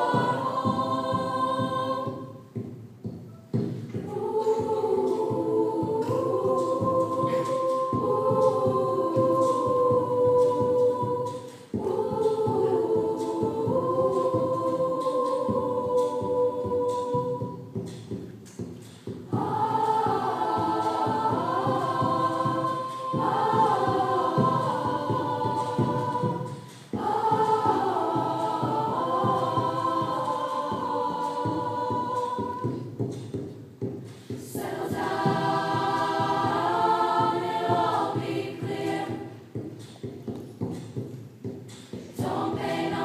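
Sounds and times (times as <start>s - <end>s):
choir singing pop song: 0.0s - 43.0s.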